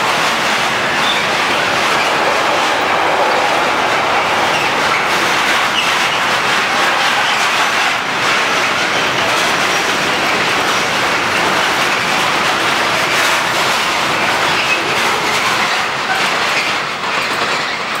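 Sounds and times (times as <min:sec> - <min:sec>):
clickety-clack over rail joints: 0:00.0 - 0:18.0
train wheels on rails: 0:00.0 - 0:18.0.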